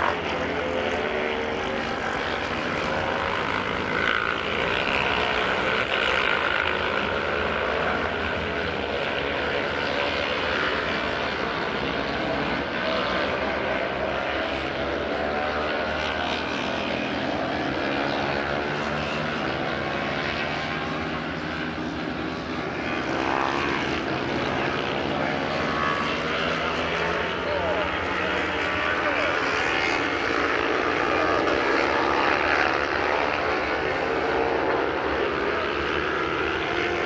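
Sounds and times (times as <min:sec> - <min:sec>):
distant racing motorcycle engines: 0:00.0 - 0:37.0.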